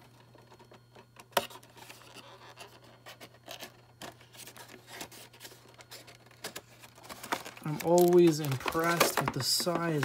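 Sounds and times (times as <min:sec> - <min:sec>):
plastic packaging scratches and clicks: 0:00.0 - 0:10.0
steady low hum: 0:00.0 - 0:10.0.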